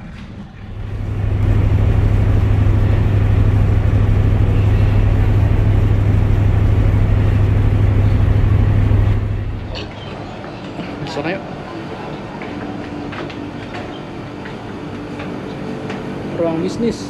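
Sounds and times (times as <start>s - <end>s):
ship engines droning: 0.4s - 15.2s.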